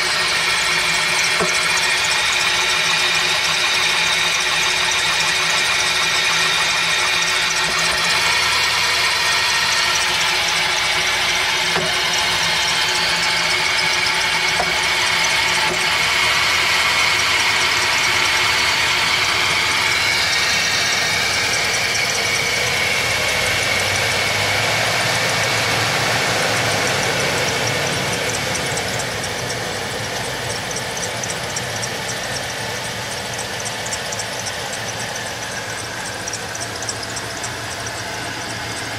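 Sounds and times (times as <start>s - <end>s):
engine running with rapid ticking: 0.0s - 38.9s.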